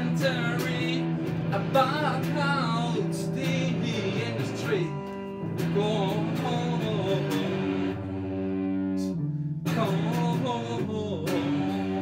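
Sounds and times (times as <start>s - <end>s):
electric guitar song: 0.0s - 12.0s.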